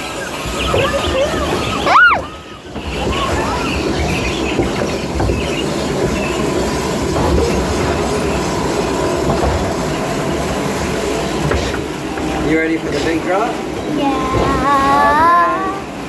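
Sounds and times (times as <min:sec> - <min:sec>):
ride vehicle rumbling on track: 0:00.0 - 0:16.0.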